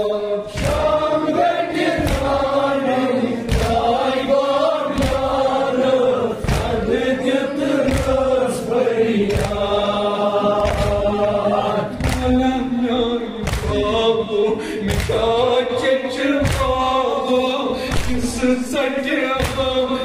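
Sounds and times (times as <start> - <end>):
men chanting a lament: 0.0 - 20.0.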